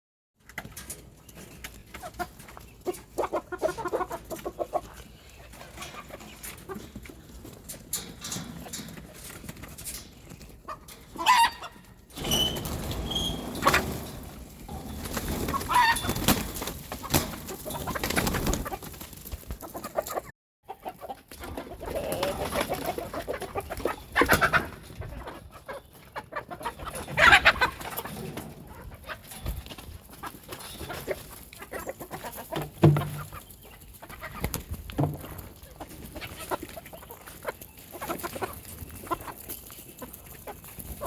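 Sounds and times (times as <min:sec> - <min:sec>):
chickens clucking: 0:00.4 - 0:41.0.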